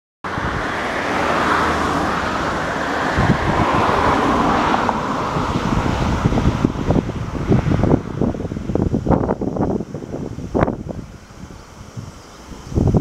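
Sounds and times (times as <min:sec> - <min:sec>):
outdoor background noise: 0:00.2 - 0:13.0
wind buffeting microphone: 0:00.2 - 0:13.0.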